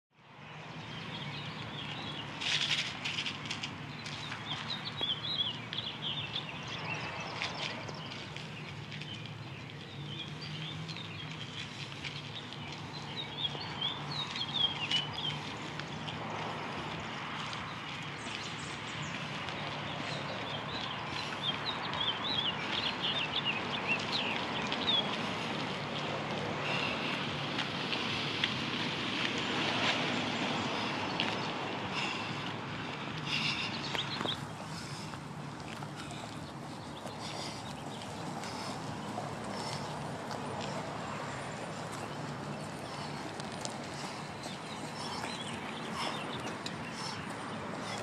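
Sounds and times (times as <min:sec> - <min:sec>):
songbirds chirping: 0:00.1 - 0:48.0.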